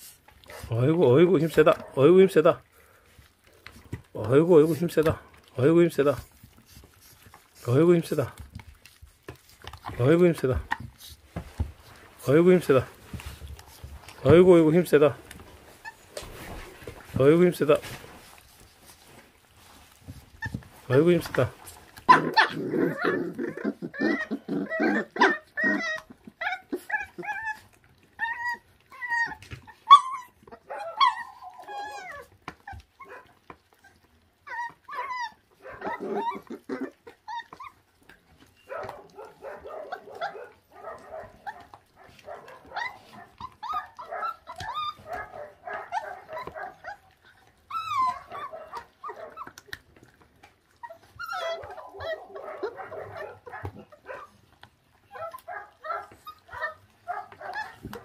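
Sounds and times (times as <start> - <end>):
puppies whining and yipping: 2.6 - 58.0.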